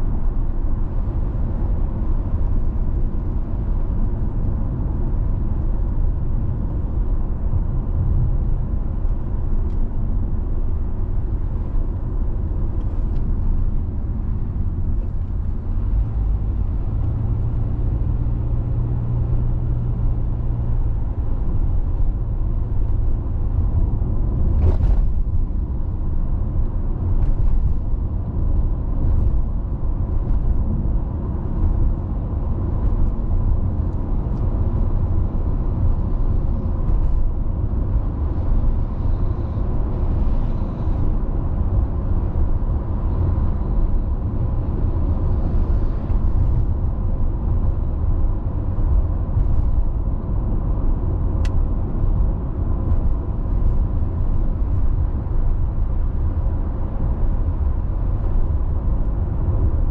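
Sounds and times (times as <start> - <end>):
tyres and engine rumble: 0.0 - 59.9.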